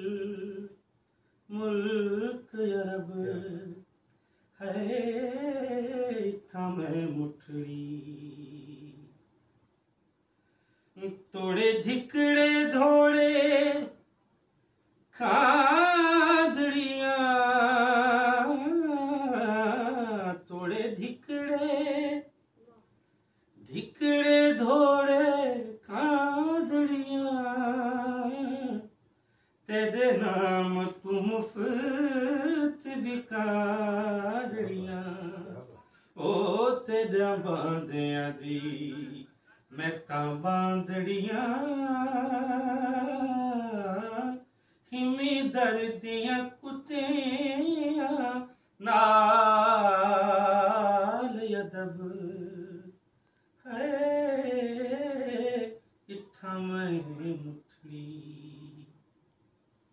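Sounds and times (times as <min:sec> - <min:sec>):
man singing unaccompanied: 0:00.0 - 0:00.8, 0:01.5 - 0:03.9, 0:04.6 - 0:09.2, 0:11.0 - 0:14.0, 0:15.1 - 0:22.4, 0:23.6 - 0:29.0, 0:29.6 - 0:53.0, 0:53.6 - 0:59.0.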